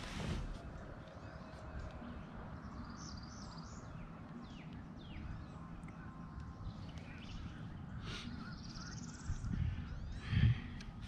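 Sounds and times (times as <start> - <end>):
steady low rumble: 0.0 - 11.0
wild birds chirping: 0.0 - 11.0.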